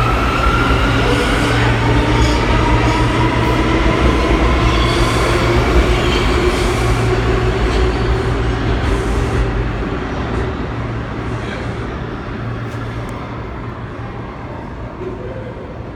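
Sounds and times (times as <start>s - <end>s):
rumble of wheels on rail: 0.0s - 15.9s
subway train motors whining: 0.0s - 15.9s.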